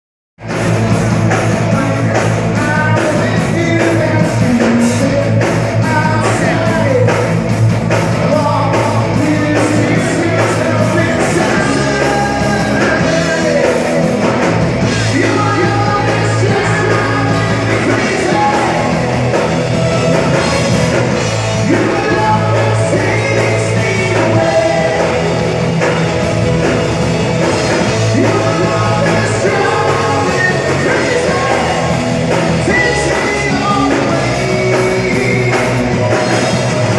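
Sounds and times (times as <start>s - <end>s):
live rock band playing: 0.4s - 36.9s
lead singer singing: 0.5s - 36.9s.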